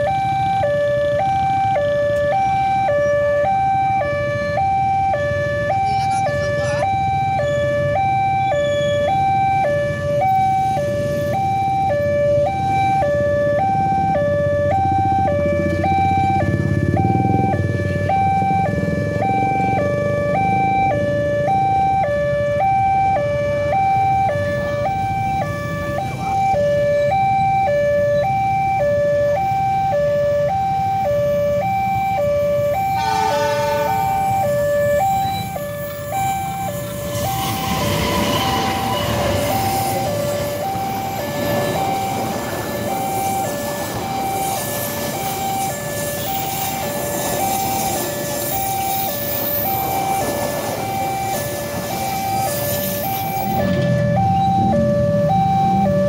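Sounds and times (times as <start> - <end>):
level crossing two-tone alarm: 0.0 - 56.0
low rumble of waiting traffic: 0.0 - 56.0.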